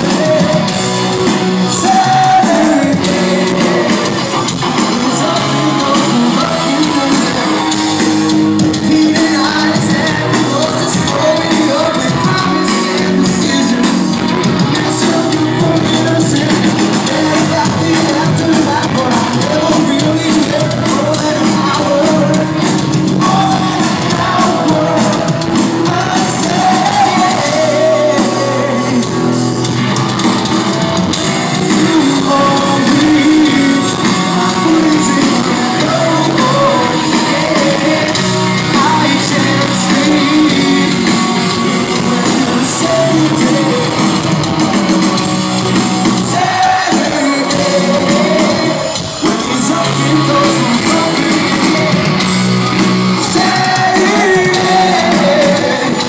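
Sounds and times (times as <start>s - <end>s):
live rock band with singer: 0.0s - 56.0s.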